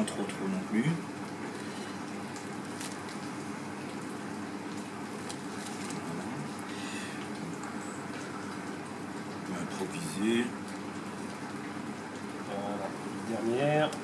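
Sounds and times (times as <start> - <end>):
kitchen hiss and hum: 0.0 - 14.0.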